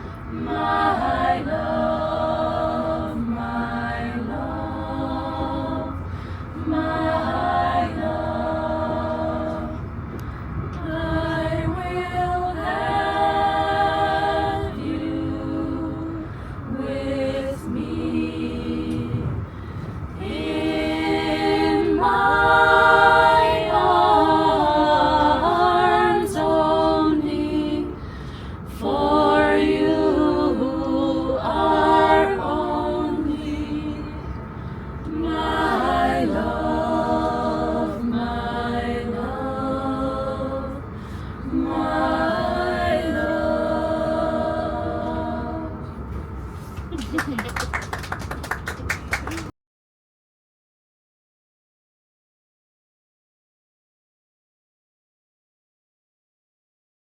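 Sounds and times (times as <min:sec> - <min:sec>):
choir singing a cappella: 0:00.0 - 0:46.4
train rumbling: 0:00.0 - 0:49.5.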